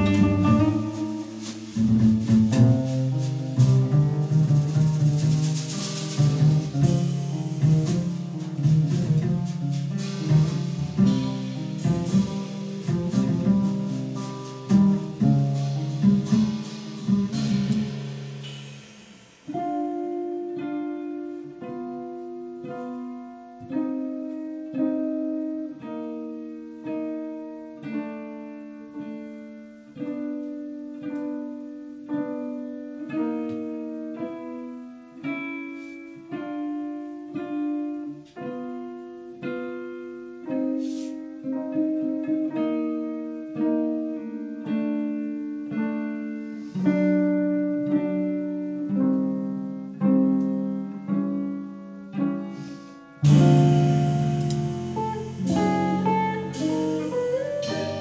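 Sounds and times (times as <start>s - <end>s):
slow jazz ballad on guitar: 0.0s - 18.8s, 19.4s - 58.0s.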